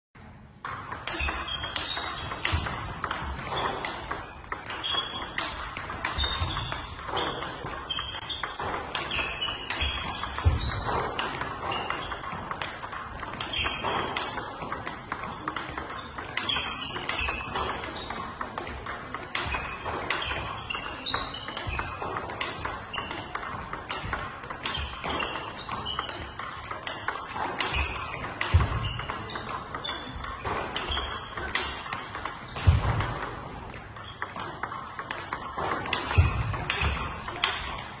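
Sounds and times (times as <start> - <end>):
table tennis balls clicking: 0.4 - 38.0.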